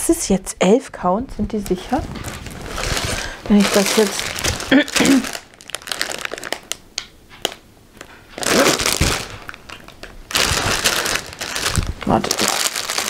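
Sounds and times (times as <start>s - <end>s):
plastic bag crinkling: 1.6s - 13.0s.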